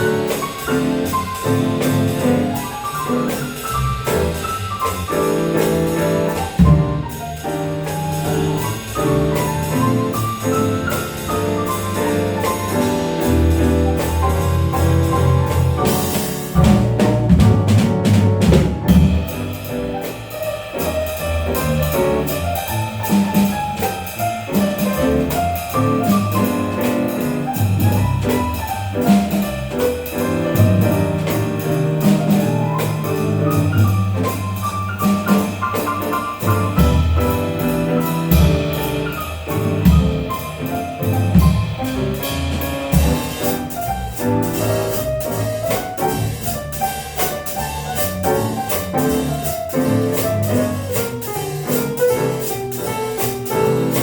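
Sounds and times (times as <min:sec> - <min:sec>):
bass: 0:00.0 - 0:54.0
drum kit: 0:00.0 - 0:54.0
piano: 0:00.0 - 0:54.0.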